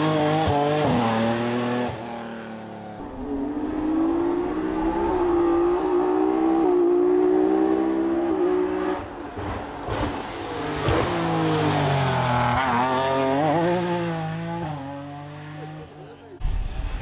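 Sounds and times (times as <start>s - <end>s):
rally car engine at high revs: 0.0s - 16.2s.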